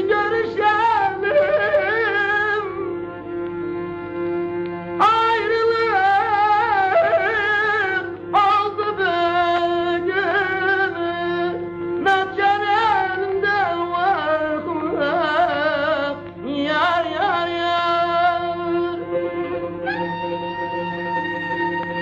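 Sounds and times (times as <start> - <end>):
ornamented melody with vibrato: 0.0 - 22.0.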